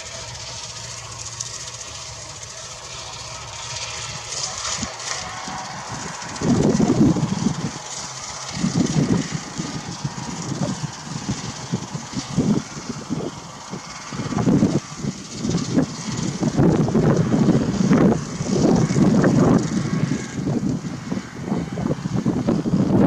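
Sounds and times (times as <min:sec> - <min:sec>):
distant tractor engine running: 0:00.0 - 0:23.0
ragged low rumbling surges: 0:00.0 - 0:23.0.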